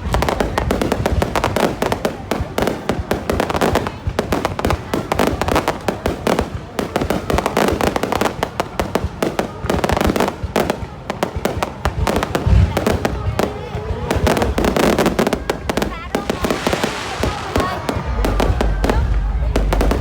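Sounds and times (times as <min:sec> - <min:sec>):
fireworks crackling bangs: 0:00.0 - 0:20.0
onlookers' voices: 0:00.0 - 0:20.0.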